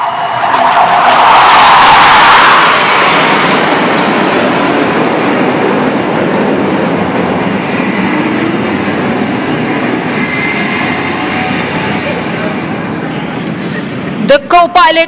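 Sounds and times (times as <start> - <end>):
jets flying past roaring: 0.0 - 14.3.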